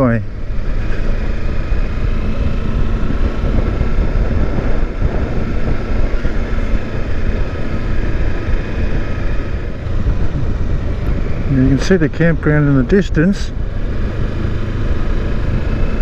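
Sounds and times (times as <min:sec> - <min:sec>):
motorcycle engine cruising: 0:00.0 - 0:16.0
wind buffeting microphone: 0:00.2 - 0:16.0.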